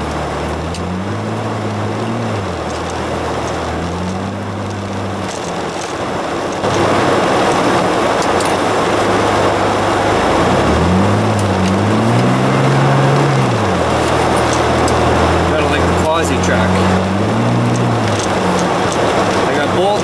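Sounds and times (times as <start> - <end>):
truck engine revving: 0.0 - 20.0
tyre and road noise: 0.0 - 20.0.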